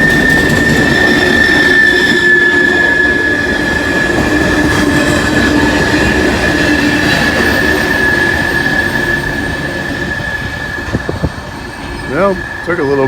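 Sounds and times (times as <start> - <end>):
freight train rumbling over rails: 0.0 - 13.0
high-pitched wheel squeal: 0.0 - 13.0.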